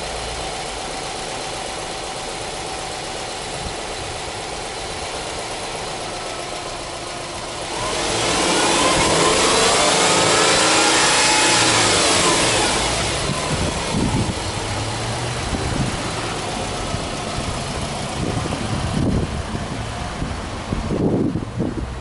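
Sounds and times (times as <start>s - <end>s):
car engine revving and idling: 0.0s - 22.0s.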